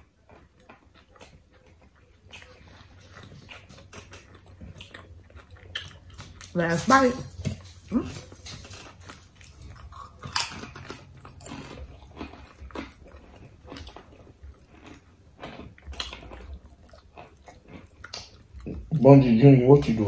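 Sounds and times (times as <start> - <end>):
chewing with wet mouth smacks: 0.0 - 20.0.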